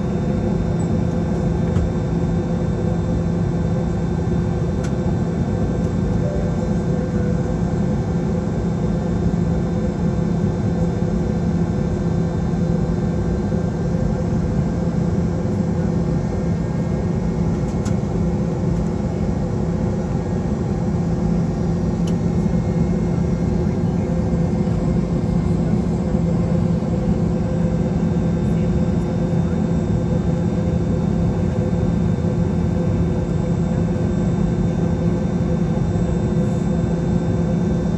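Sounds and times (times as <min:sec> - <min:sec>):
airliner cabin drone: 0:00.0 - 0:37.9.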